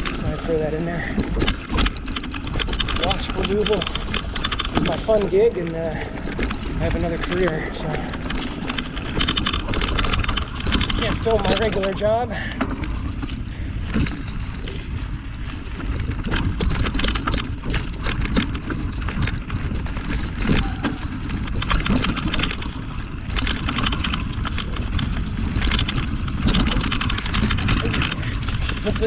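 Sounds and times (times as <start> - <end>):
bike knocking and rattling over rocks: 0.0 - 29.0
bike tyres rumbling on rough trail: 0.0 - 29.0.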